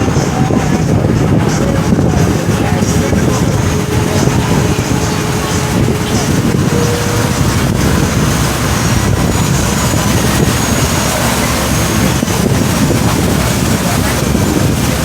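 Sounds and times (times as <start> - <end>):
boat engine rumble: 0.0 - 15.0
water: 0.0 - 15.0
wind buffeting microphone: 0.0 - 15.0.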